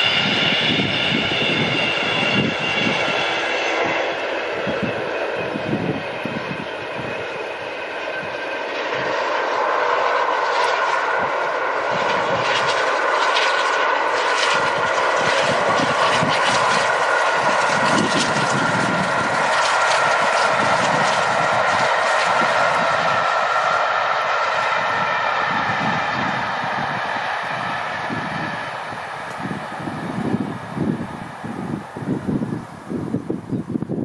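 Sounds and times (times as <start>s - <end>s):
rolling train rumble: 0.0s - 34.0s.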